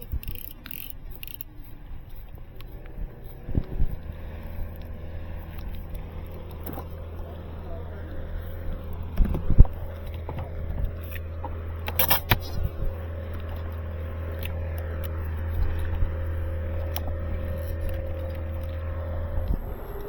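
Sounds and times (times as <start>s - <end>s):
fishing tackle clicking and rattling: 0.0s - 7.3s, 8.8s - 18.9s
small boat motor humming: 0.0s - 20.0s.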